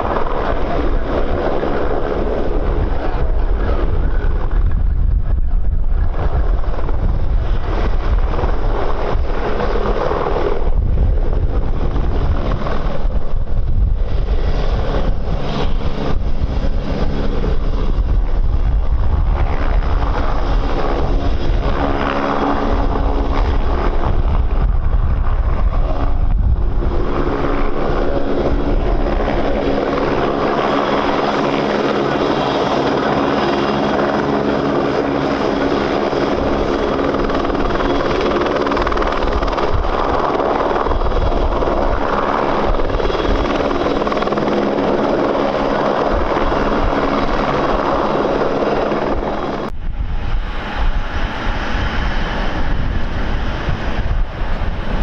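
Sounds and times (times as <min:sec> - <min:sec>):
airliner engines running: 0:00.0 - 0:55.0
wind buffeting microphone: 0:00.0 - 0:55.0.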